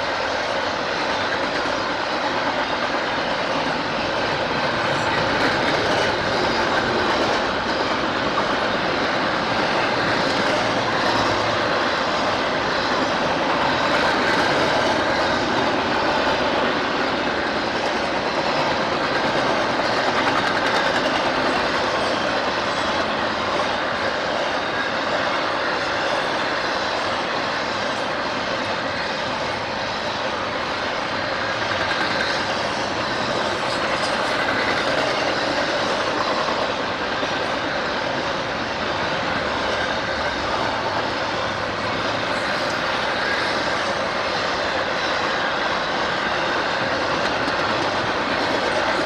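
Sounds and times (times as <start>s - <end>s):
train wheels on track: 0.0s - 49.0s.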